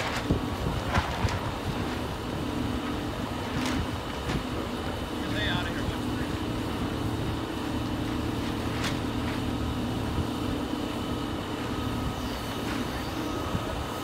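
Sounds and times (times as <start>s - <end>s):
large engine droning: 0.0s - 14.0s.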